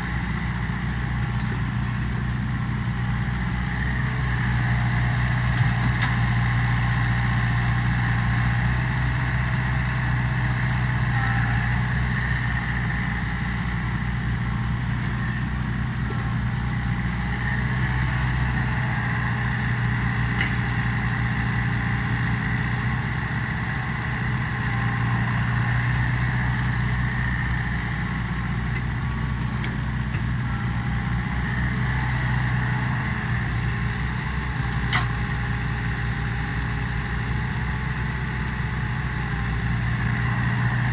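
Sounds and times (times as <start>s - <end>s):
excavator diesel engine humming: 0.0s - 40.9s.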